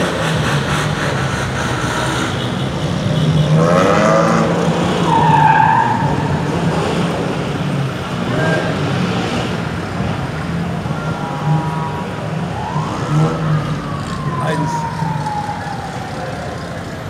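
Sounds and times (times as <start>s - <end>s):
vehicle engines running: 0.0s - 17.0s.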